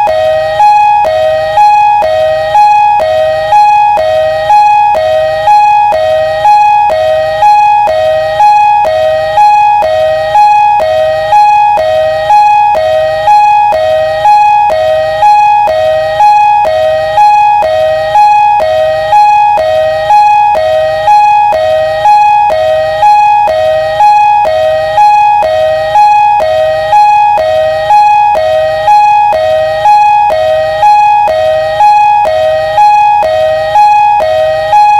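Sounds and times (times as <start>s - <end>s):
ambulance siren two-tone: 0.0s - 34.9s.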